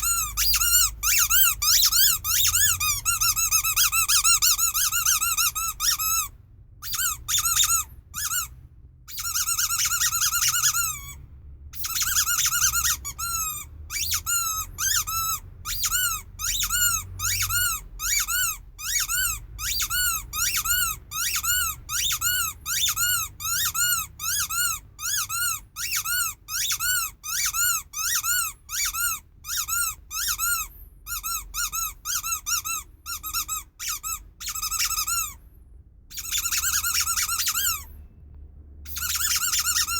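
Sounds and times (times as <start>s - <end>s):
rubber squeaky toy squeaking: 0.0s - 38.2s, 38.8s - 39.9s.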